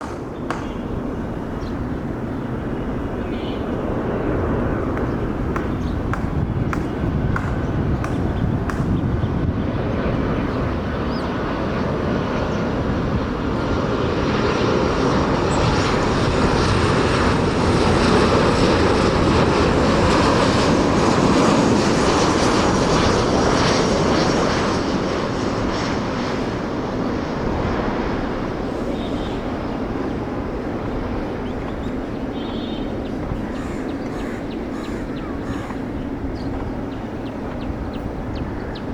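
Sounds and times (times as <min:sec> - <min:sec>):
jet airliner landing: 0:00.0 - 0:38.9.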